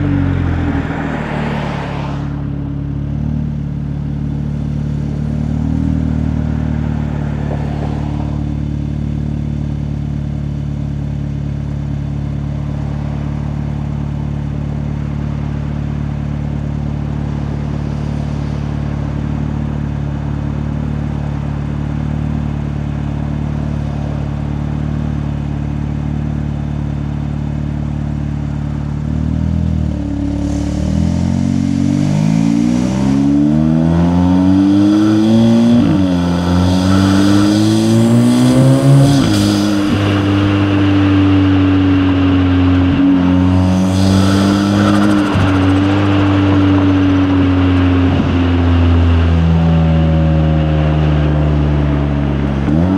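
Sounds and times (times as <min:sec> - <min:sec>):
car engine idling and accelerating: 0:00.0 - 0:52.9.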